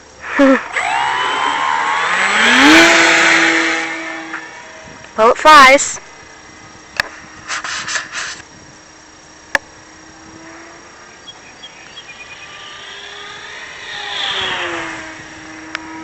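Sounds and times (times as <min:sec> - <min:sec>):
model plane propeller buzzing: 0:00.0 - 0:16.0.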